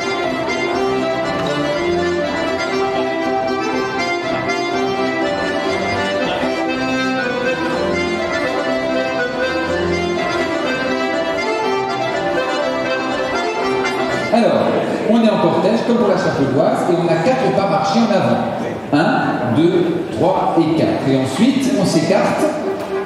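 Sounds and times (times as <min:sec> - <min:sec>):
accordion playing polka: 0:00.0 - 0:18.0, 0:21.6 - 0:23.0.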